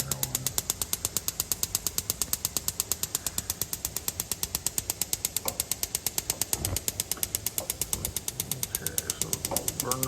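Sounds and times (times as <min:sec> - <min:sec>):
gas igniter clicking rapidly: 0:00.0 - 0:10.0.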